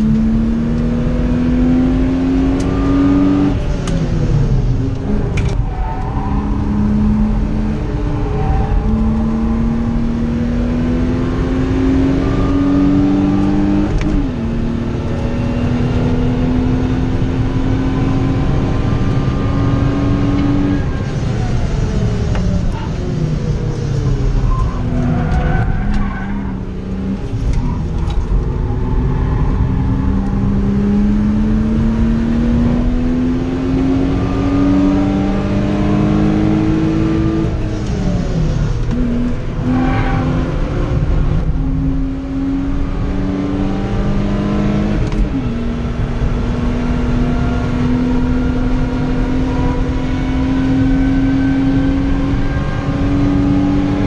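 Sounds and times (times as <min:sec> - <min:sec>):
car engine revving: 0:00.0 - 0:54.0
road and tyre noise: 0:00.0 - 0:54.0.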